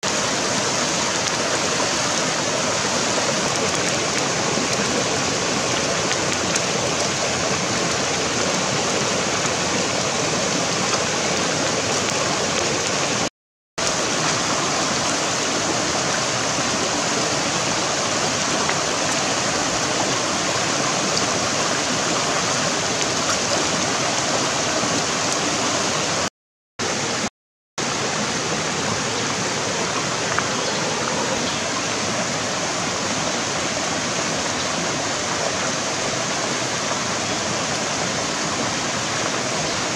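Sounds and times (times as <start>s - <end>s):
river rushing over rocks: 0.0s - 26.3s, 26.9s - 39.9s.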